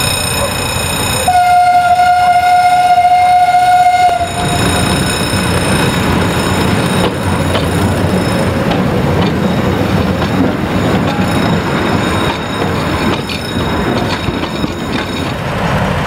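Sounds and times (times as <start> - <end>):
diesel locomotive engine rumble: 0.0 - 16.0
wheels clicking over rails: 0.0 - 16.0.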